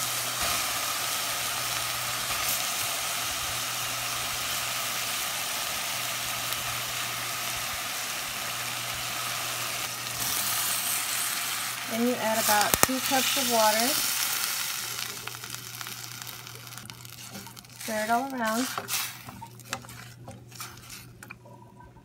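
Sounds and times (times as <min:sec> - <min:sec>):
food sizzling in oil: 0:00.0 - 0:21.3
low constant hum: 0:03.2 - 0:22.0.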